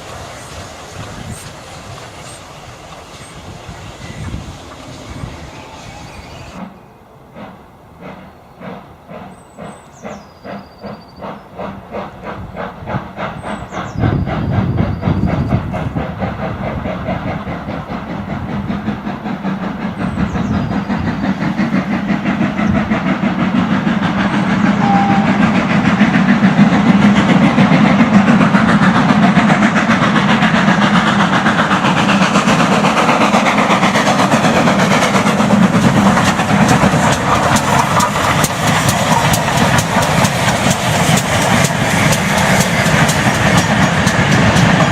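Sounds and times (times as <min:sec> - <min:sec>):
steam and running gear rushing: 0:00.0 - 0:44.9
steam train exhaust beats: 0:00.0 - 0:44.9.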